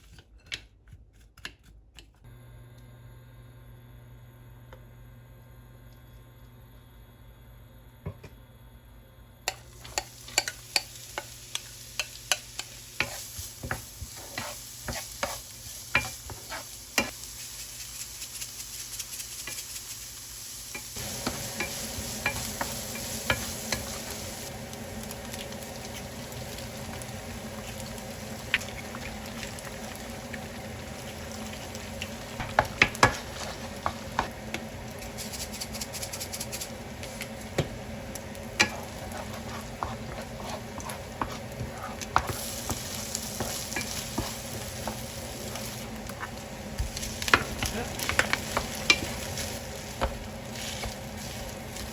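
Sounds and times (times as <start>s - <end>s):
rice sizzling in a pan: 9.4s - 51.9s.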